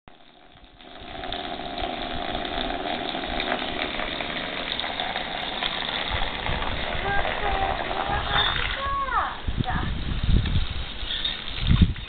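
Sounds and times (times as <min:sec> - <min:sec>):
water jetting and spattering: 0:00.1 - 0:12.0.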